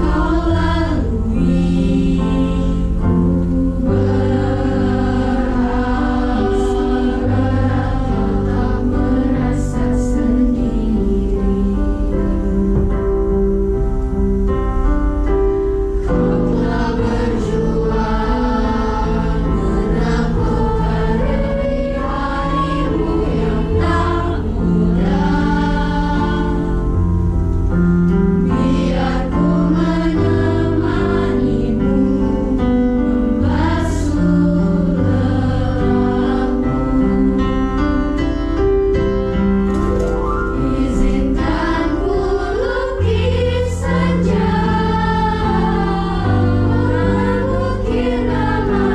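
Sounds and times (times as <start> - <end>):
choir singing in parts: 0.0 - 13.3, 15.9 - 38.3, 40.5 - 48.9
electronic keyboard: 0.0 - 48.9.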